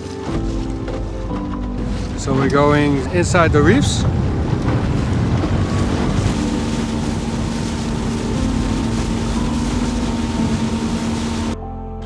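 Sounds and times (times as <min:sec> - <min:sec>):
outboard motor running: 0:00.0 - 0:11.6
wind on microphone: 0:00.0 - 0:11.6.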